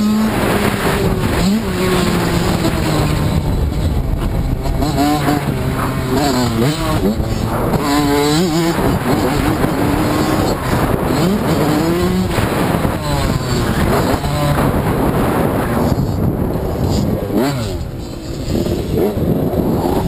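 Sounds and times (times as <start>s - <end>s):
dirt bike engine revving: 0.0s - 20.0s
wind and ground noise: 0.0s - 20.0s.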